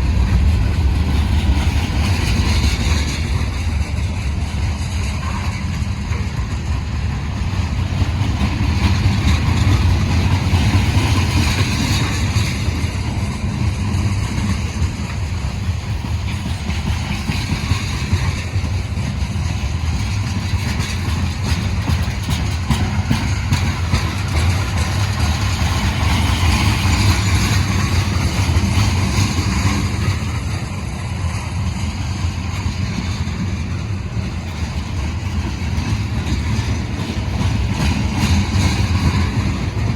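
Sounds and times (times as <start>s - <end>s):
diesel locomotive rumble: 0.0s - 39.9s
rolling freight train noise: 0.0s - 39.9s.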